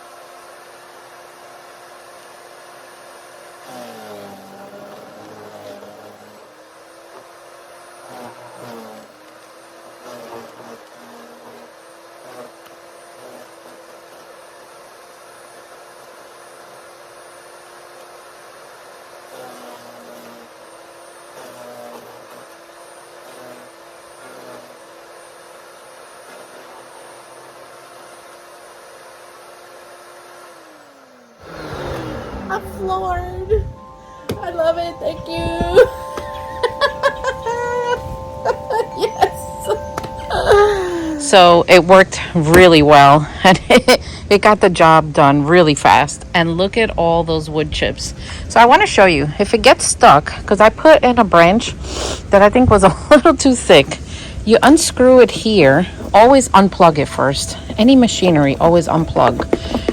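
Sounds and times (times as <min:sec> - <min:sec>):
wood chipper motor humming: 0:00.0 - 0:59.9.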